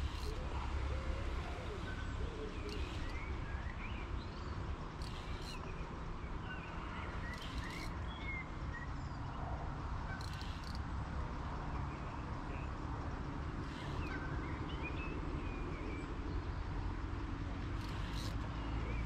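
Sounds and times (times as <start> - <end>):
small birds chirping: 0.0 - 10.9, 11.5 - 19.0.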